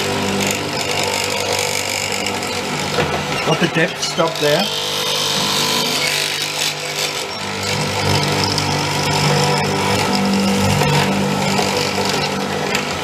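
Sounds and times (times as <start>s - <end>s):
mortiser motor humming: 0.0s - 13.0s.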